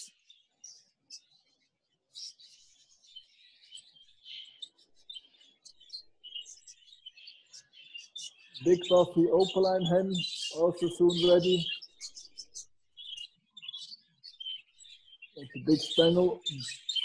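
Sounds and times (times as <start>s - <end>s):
budgerigars chirping: 2.1s - 17.0s.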